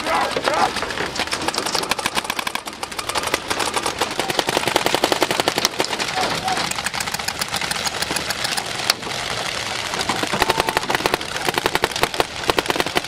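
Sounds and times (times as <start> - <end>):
paintball guns firing: 0.2 - 13.0.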